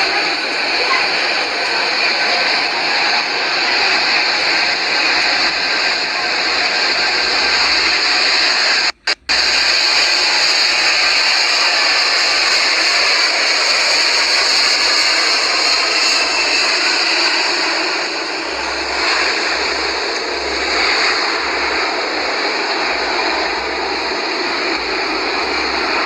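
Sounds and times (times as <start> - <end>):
jet engines running with whine: 0.0 - 26.0.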